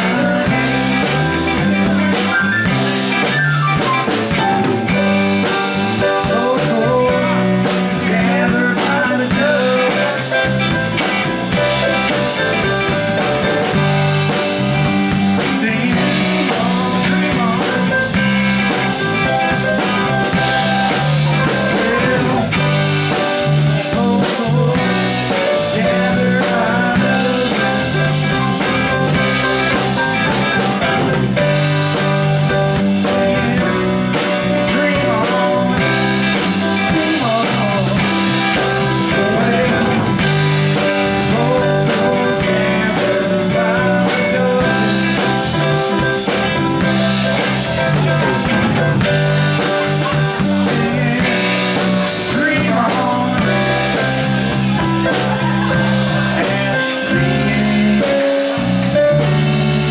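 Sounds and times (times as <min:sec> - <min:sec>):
bass line: 0:00.0 - 0:59.9
drum kit: 0:00.0 - 0:59.9
electric guitars: 0:00.0 - 0:59.9
organ: 0:00.0 - 0:59.9.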